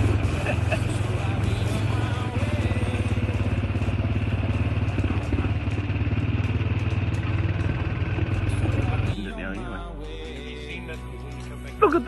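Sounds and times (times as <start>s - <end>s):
vehicle engine chugging: 0.0s - 12.0s.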